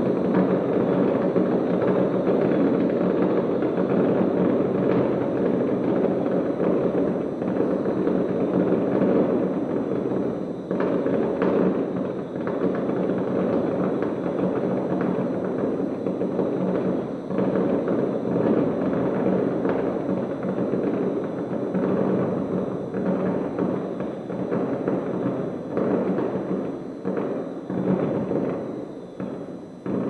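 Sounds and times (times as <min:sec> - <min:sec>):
distant fireworks bangs and crackles: 0:00.0 - 0:30.0.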